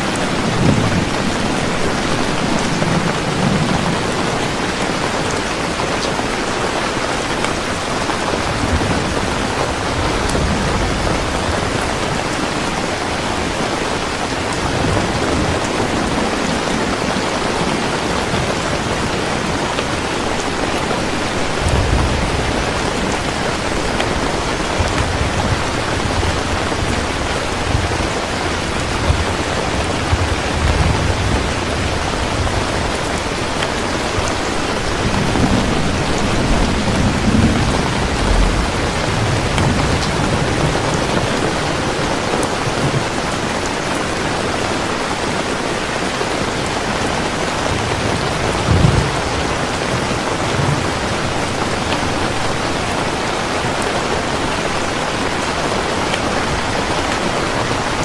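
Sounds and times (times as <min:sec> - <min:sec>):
low rolling thunder: 0:00.0 - 0:06.0, 0:06.7 - 0:43.4, 0:46.4 - 0:58.0
heavy rain: 0:00.0 - 0:58.0.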